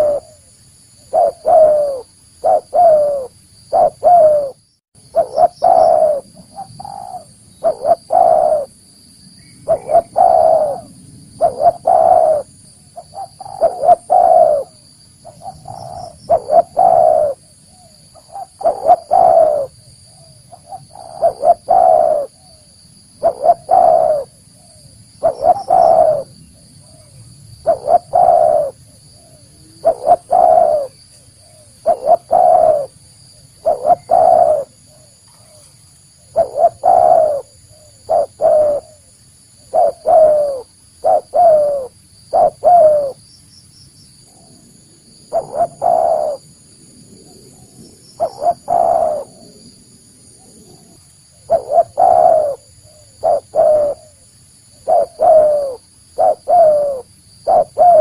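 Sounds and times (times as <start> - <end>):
dove cooing: 0.0 - 8.8, 9.6 - 43.2, 44.3 - 58.0.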